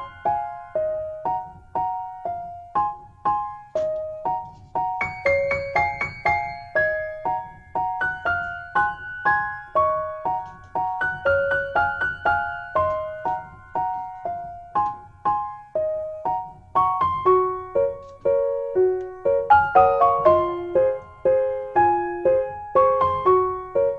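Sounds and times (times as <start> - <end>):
soft piano melody: 0.0 - 23.9.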